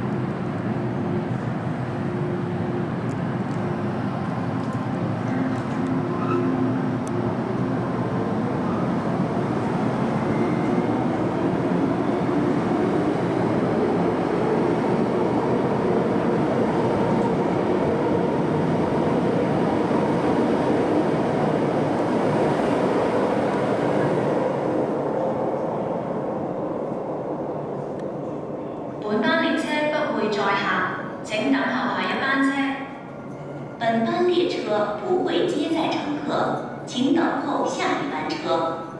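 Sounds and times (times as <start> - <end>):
metro train rumbling: 0.0 - 38.9.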